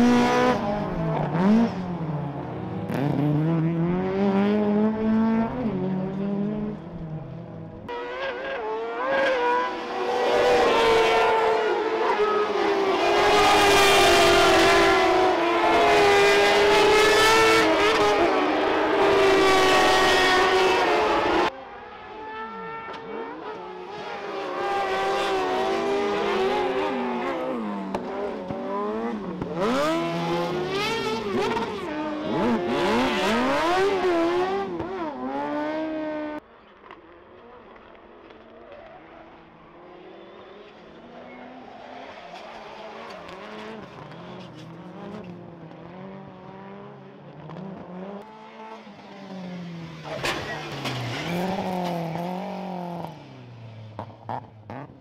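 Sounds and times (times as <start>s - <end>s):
distant rally cars racing: 0.0s - 55.0s
racing buggy engines: 0.0s - 55.0s.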